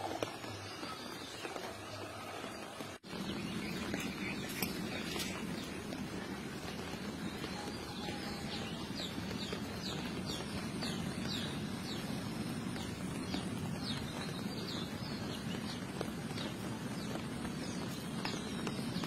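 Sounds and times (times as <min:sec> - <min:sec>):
low background noise: 0:00.0 - 0:19.0
bird chirping: 0:00.2 - 0:19.0.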